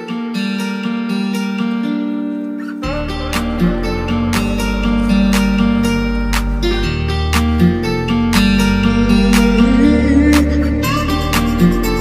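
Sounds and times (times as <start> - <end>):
acoustic guitar music with beat: 0.0 - 12.0.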